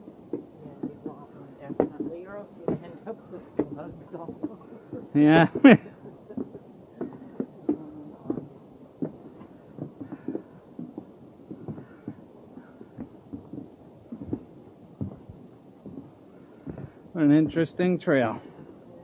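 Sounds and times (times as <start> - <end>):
footsteps on forest trail: 0.0 - 18.8.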